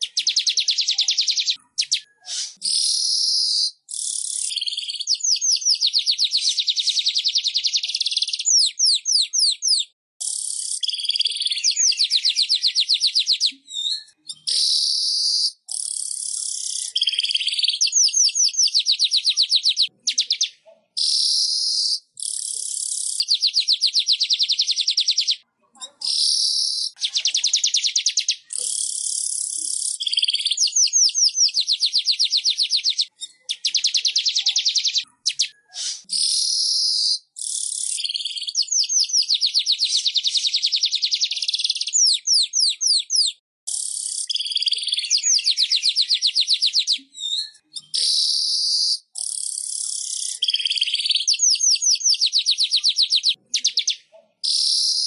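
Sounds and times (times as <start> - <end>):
bird buzzy trilling song: 0.0 - 25.4, 26.1 - 55.0.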